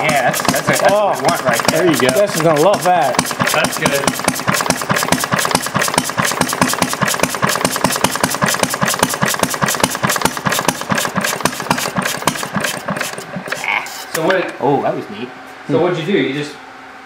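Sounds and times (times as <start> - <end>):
single-cylinder engine running: 0.0 - 13.7.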